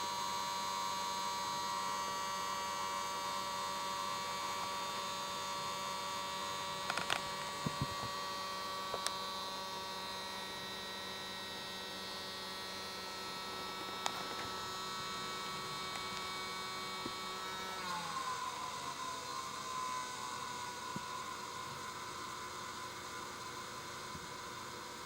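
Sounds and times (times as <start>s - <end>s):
cooling fan grinding whine: 0.0s - 25.0s.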